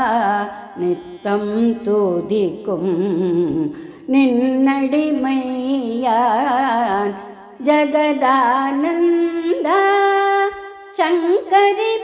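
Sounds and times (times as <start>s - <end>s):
woman singing devotional song: 0.0s - 12.0s.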